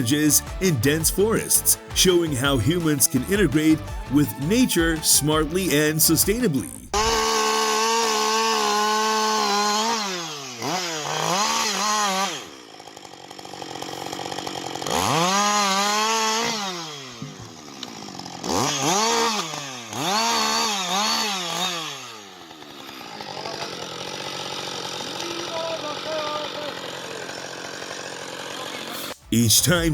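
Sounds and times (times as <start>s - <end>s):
chainsaw revving: 0.0s - 29.2s.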